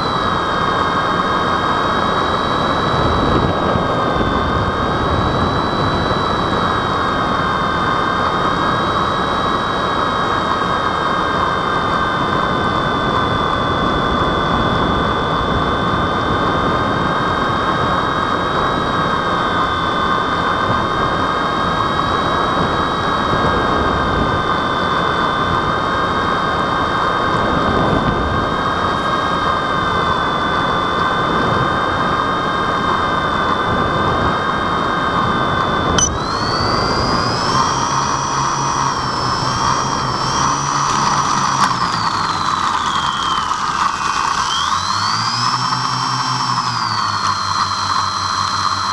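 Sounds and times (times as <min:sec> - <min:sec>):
model airplane motors whining: 0:00.0 - 0:48.9.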